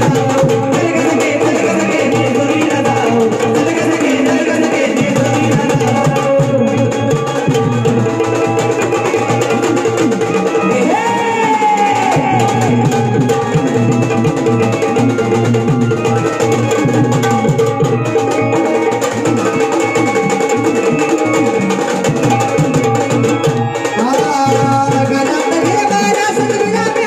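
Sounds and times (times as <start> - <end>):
drums keeping rhythm: 0.0 - 27.0.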